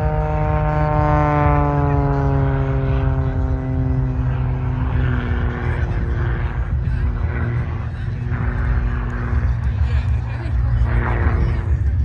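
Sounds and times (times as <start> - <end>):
aircraft engine passing: 0.0 - 12.0
strong low rumble: 0.0 - 12.0.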